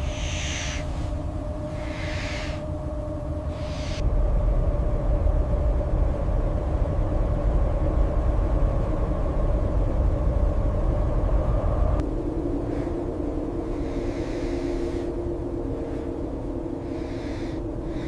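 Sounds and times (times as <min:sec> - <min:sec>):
loud low rumble: 0:00.0 - 0:17.0
faint held hum: 0:00.0 - 0:18.0.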